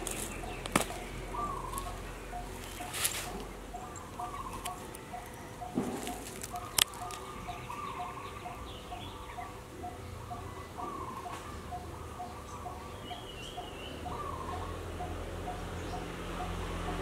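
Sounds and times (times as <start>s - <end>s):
bird cooing: 0.0s - 17.0s.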